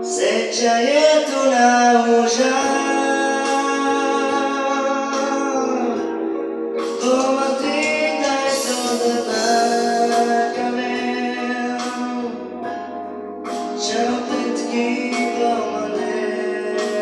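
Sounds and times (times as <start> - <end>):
keyboard chords and bass: 0.0 - 17.0
man singing with vibrato: 0.0 - 17.0.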